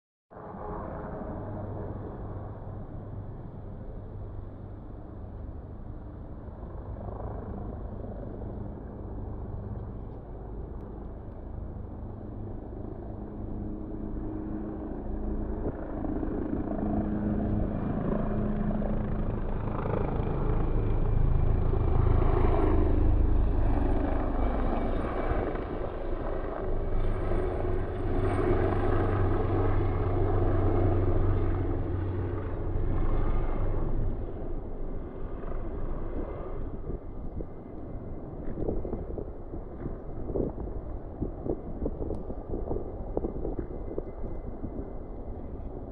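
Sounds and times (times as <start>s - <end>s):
helicopter rotor and engine: 0.4s - 45.9s.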